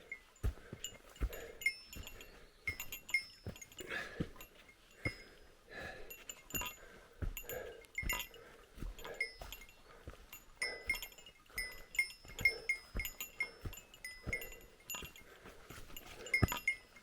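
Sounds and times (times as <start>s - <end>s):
footsteps on rocky trail: 0.0s - 17.0s
heavy breathing: 0.0s - 17.0s.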